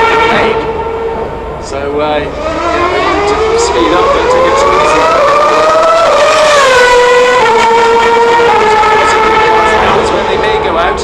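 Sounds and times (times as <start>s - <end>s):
racing car engine at high revs: 0.0s - 11.0s.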